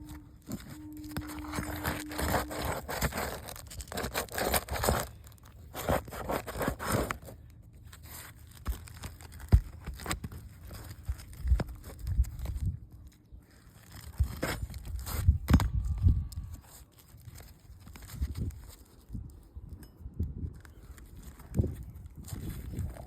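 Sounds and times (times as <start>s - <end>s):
roof shingles scraped and torn: 0.0s - 19.2s, 20.7s - 23.0s.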